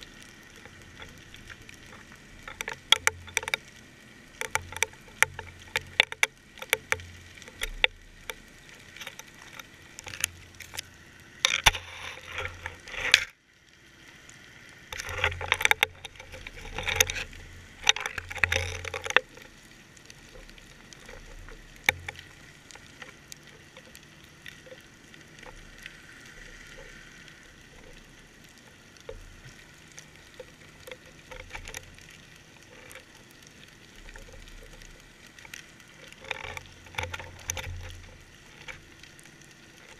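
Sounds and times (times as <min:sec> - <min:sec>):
muffled underwater clicks and knocks: 0:00.0 - 0:13.4, 0:14.3 - 0:39.9.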